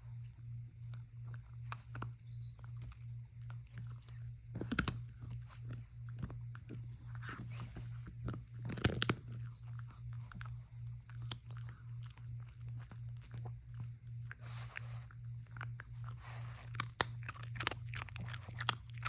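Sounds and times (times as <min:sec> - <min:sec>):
pulsing low hum: 0:00.0 - 0:19.0
dog crunching food: 0:00.2 - 0:19.0.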